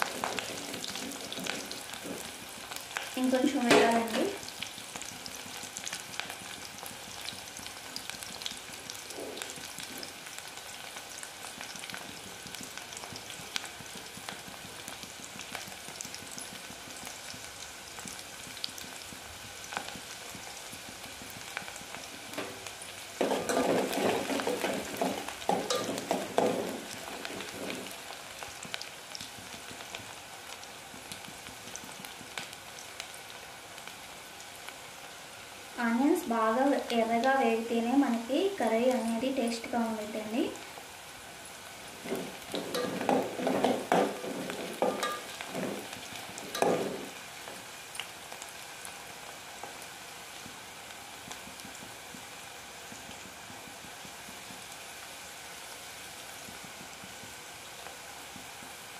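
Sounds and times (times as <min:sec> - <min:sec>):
onions sizzling in hot oil: 0:00.0 - 0:58.9.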